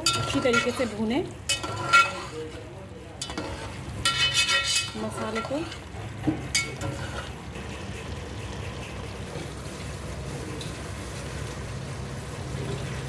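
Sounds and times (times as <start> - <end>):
sauce bubbling and sizzling in pot: 0.0 - 13.0.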